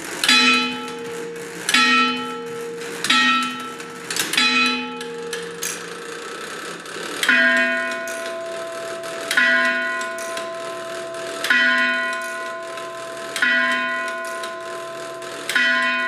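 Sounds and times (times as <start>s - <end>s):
clock striking on bell: 0.0s - 16.0s
clock works clicking: 0.0s - 16.0s.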